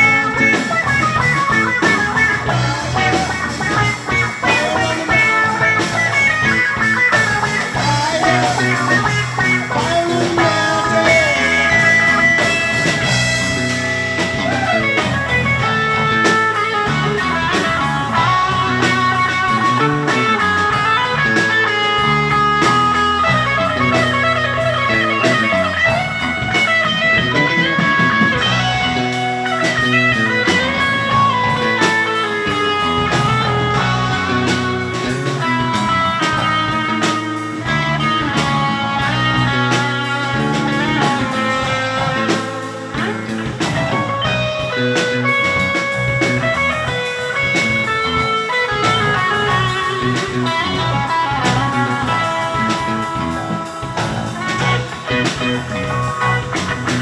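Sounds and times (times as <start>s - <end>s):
drum kit with cymbals: 0.0s - 57.0s
electric bass line: 0.0s - 57.0s
lead electric guitar: 0.0s - 57.0s.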